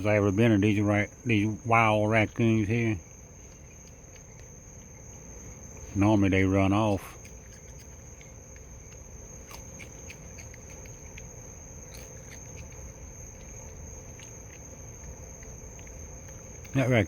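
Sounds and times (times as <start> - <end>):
crickets trilling: 0.0 - 17.0
faint clicks and ticks: 0.0 - 17.0.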